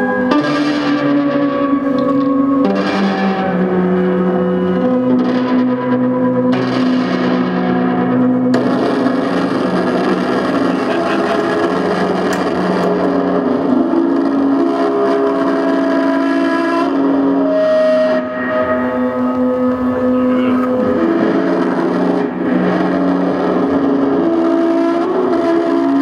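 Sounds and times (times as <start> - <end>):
distorted electric violin drone: 0.0 - 26.0.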